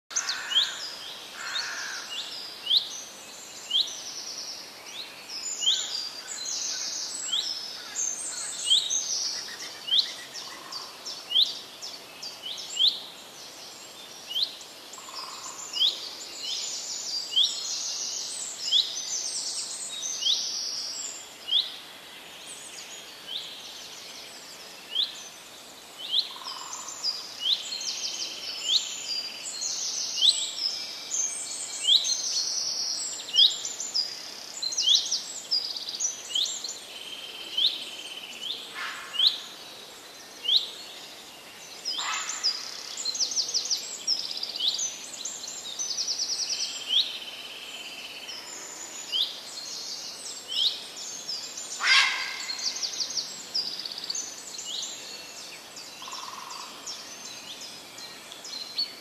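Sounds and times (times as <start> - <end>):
faint outdoor hiss: 0.1 - 59.0
songbirds chirping and trilling: 0.1 - 59.0.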